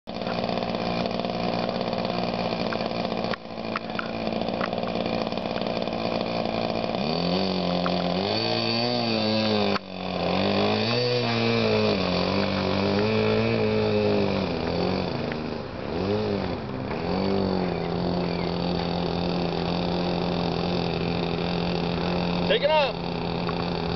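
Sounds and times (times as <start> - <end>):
model airplane engine revving: 0.0 - 23.9.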